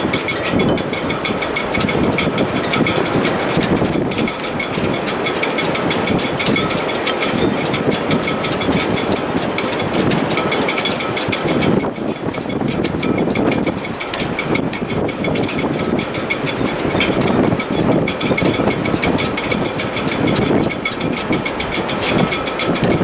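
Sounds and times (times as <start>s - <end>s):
rapid ticking: 0.0s - 23.0s
strong wind rushing in rigging: 0.0s - 23.0s.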